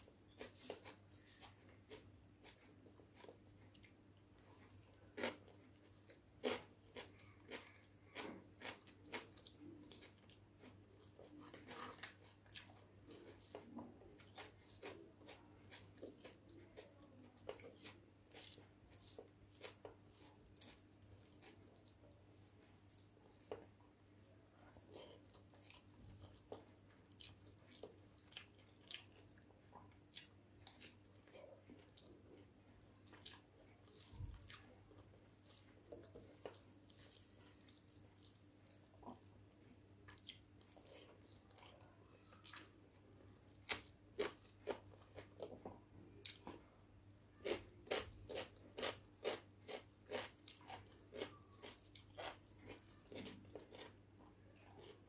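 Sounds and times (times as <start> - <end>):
person chewing: 0.0 - 42.7, 43.3 - 55.0
fingers squishing food: 4.6 - 42.8, 43.4 - 55.0.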